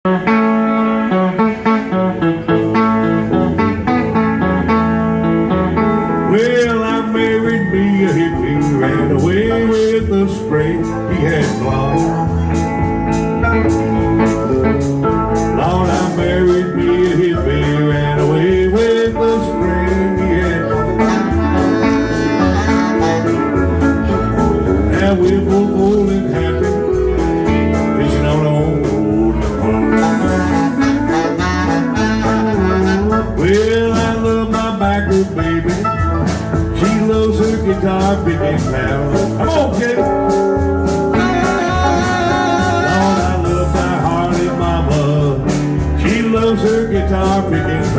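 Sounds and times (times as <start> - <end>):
country band instrumental: 0.0 - 47.9.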